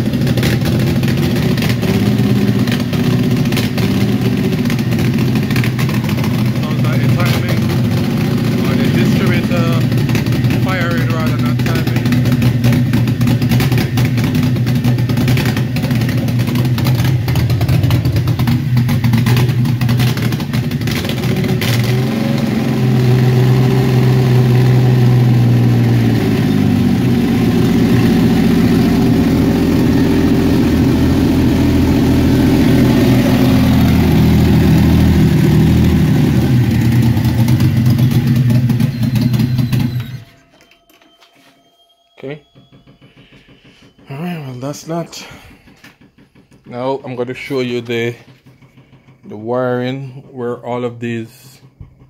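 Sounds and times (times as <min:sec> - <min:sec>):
car engine fast idle: 0:00.0 - 0:40.8, 0:42.4 - 0:52.0.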